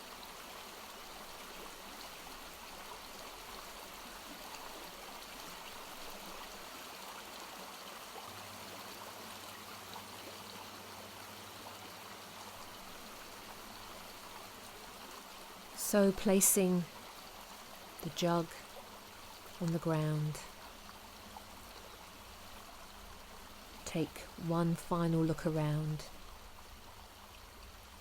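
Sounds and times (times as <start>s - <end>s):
stream water babbling: 0.0s - 28.0s.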